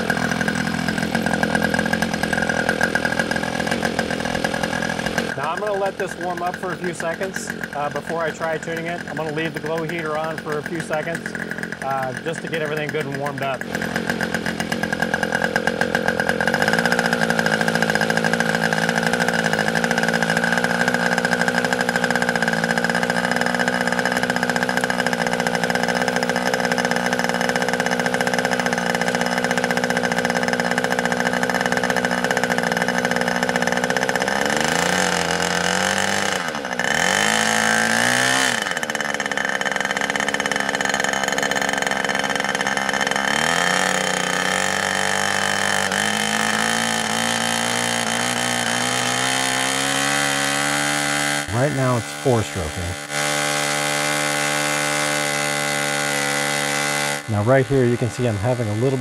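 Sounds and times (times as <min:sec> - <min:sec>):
model glow engine running: 0:00.0 - 0:59.0.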